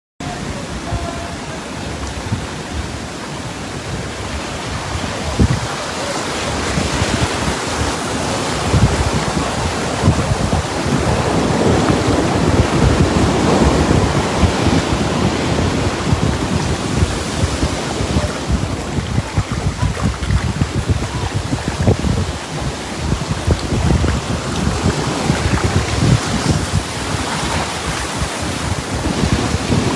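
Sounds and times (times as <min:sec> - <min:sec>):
seawater rushing over sand: 0:00.2 - 0:29.9
waves breaking: 0:00.2 - 0:29.9
wind gusting on microphone: 0:00.2 - 0:29.9.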